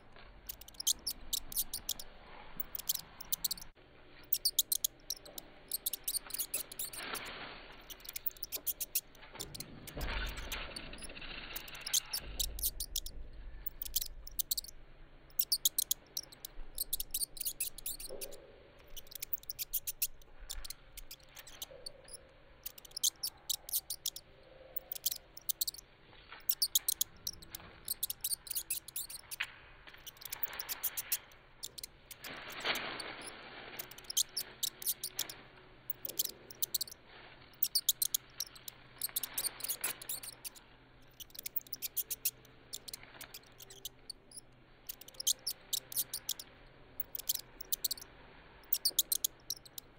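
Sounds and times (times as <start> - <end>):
rodent squeaking: 0.0 - 49.9.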